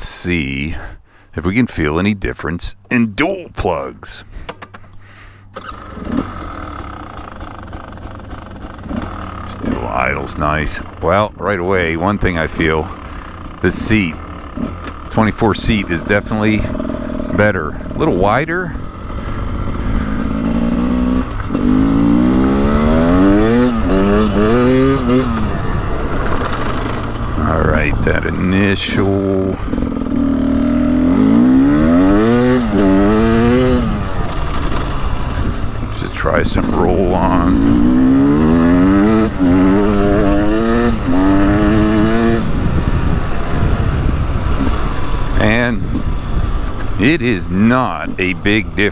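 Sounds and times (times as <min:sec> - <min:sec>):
quick gear shifts: 0:00.5 - 0:48.9
two-stroke dirt bike engine revving: 0:02.9 - 0:48.9.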